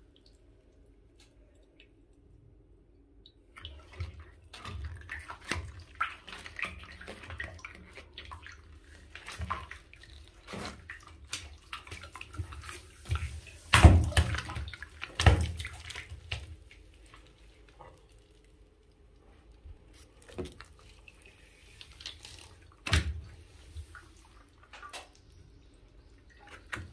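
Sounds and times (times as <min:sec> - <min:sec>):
water balloon squishing and sloshing: 0:03.4 - 0:26.9.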